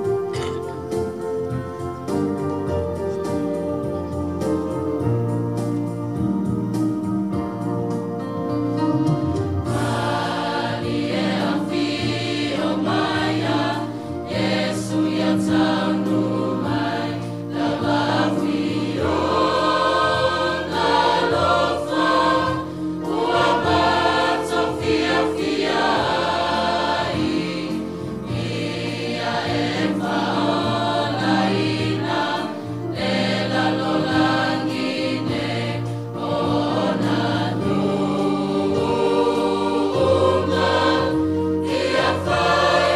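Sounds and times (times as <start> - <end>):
choir singing a hymn: 0.0 - 7.0, 9.4 - 42.9
organ-like keyboard: 0.0 - 42.9.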